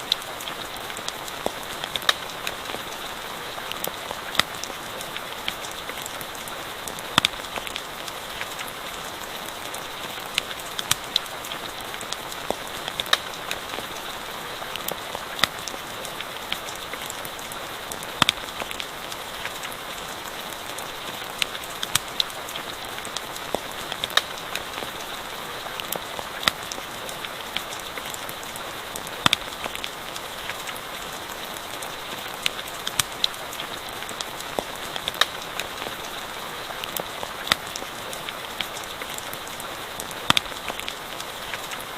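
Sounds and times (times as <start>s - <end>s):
campfire crackling: 0.0s - 41.9s
steady rain hiss: 0.0s - 41.9s.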